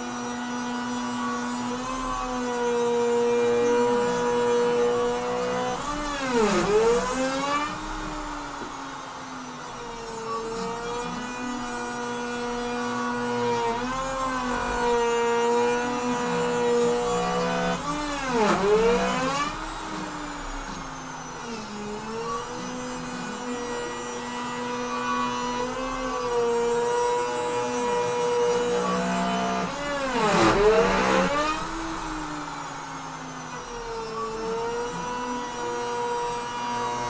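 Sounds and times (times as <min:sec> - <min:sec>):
router spindle cutting wood: 0:00.0 - 0:37.0.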